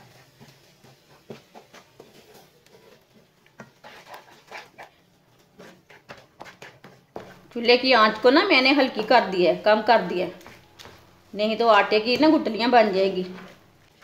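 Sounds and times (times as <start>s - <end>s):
wooden spatula scraping a pan: 0.0s - 11.1s, 11.7s - 14.0s.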